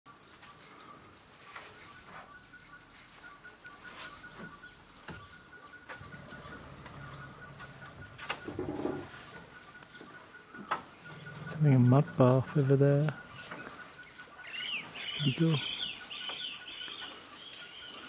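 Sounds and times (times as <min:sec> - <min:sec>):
bird chirps: 0:00.1 - 0:18.0
insects trilling: 0:02.0 - 0:18.0.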